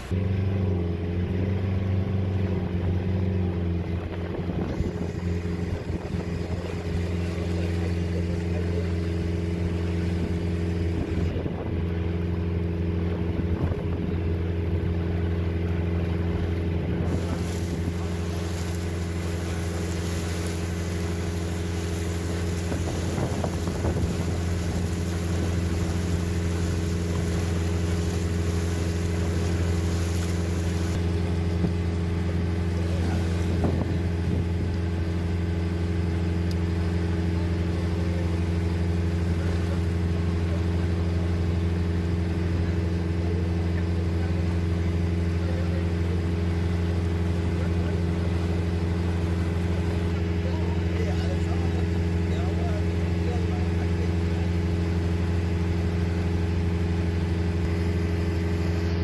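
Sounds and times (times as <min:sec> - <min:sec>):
motorboat engine humming: 0:00.0 - 0:59.0.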